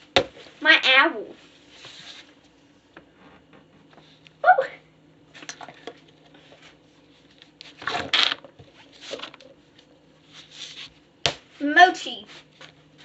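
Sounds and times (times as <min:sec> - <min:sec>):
fidget toys rustling and scraping: 0:01.3 - 0:04.2, 0:05.3 - 0:13.0.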